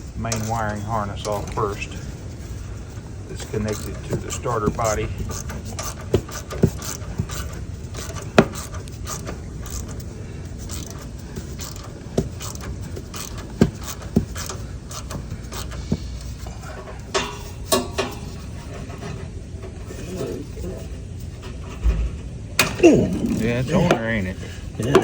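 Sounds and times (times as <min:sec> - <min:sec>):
metal tools clinking: 0:00.2 - 0:21.8.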